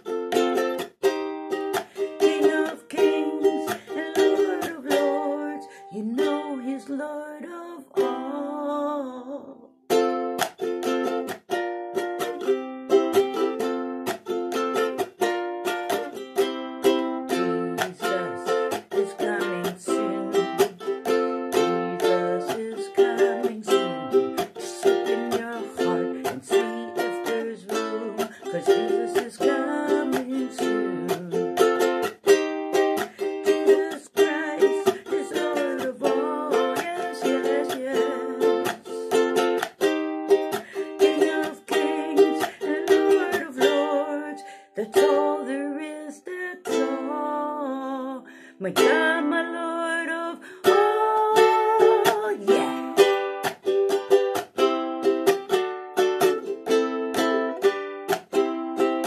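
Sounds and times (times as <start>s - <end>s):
ukulele strumming: 0.0s - 59.0s.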